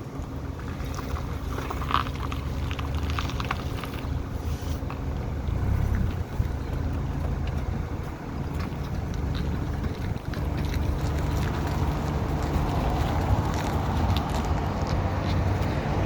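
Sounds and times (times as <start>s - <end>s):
car engine humming: 0.0s - 16.0s
wheels ticking when steered: 0.0s - 16.0s.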